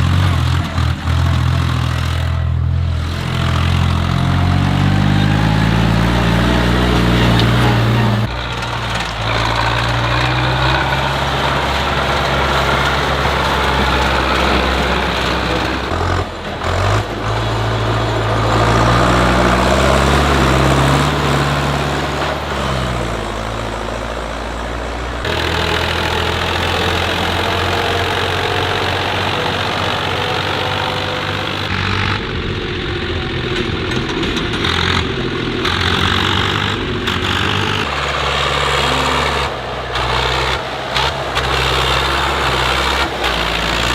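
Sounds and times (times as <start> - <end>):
tractor engines running: 0.0 - 43.9.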